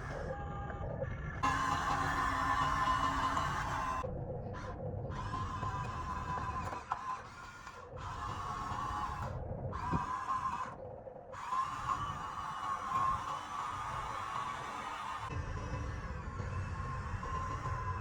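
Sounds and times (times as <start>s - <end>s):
toy electric motors whining: 1.4s - 10.8s, 11.4s - 18.0s.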